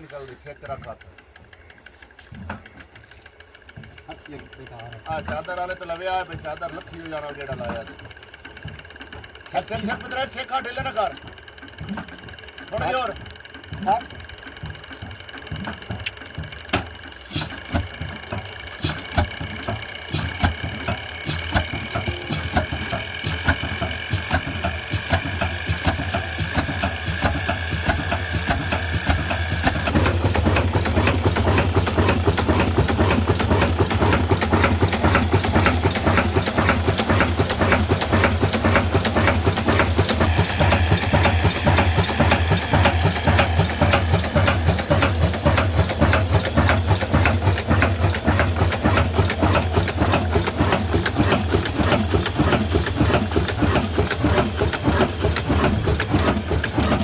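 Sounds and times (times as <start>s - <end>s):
diesel engine running: 1.5s - 57.0s.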